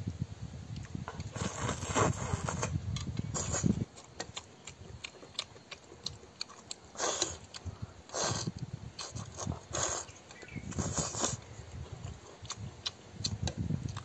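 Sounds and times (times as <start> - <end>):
noodles slurping and chewing: 0.8 - 14.0.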